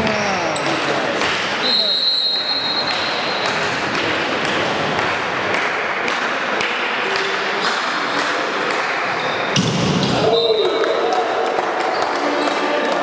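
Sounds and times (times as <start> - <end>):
crowd noise in sports hall: 0.0 - 13.0.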